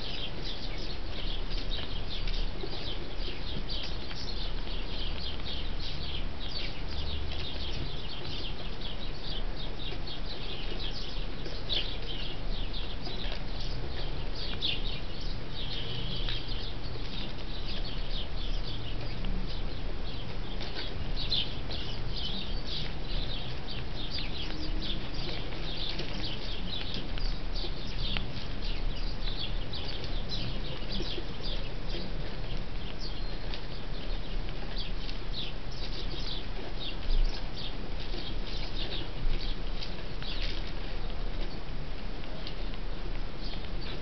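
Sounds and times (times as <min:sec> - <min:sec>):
sparrows chirping: 0:00.0 - 0:44.0.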